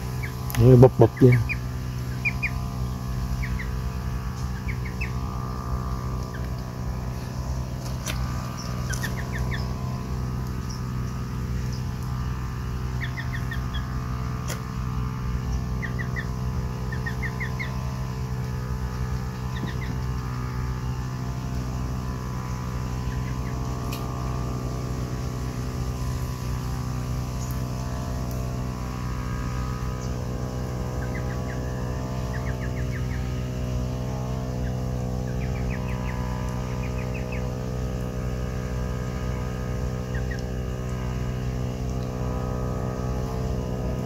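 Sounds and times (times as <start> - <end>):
small birds chirping: 0.0 - 24.4, 25.0 - 44.0
motor humming: 0.0 - 44.0.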